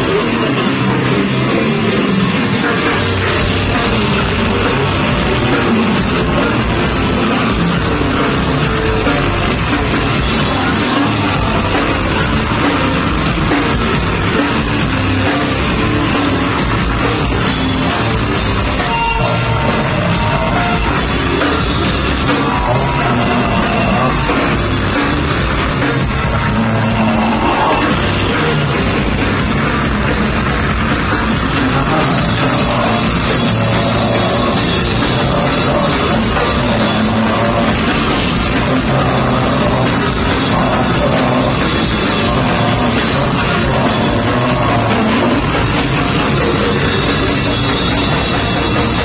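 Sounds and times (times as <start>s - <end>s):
live heavy rock band: 0.0s - 49.0s.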